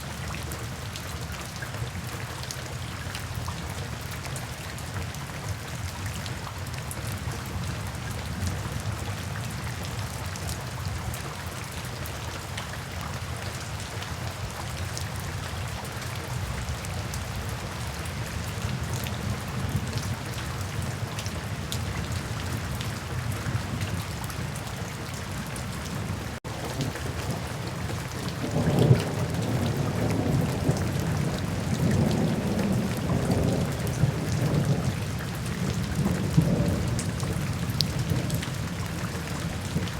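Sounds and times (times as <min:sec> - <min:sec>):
rain falling on surfaces: 0:00.0 - 0:39.9.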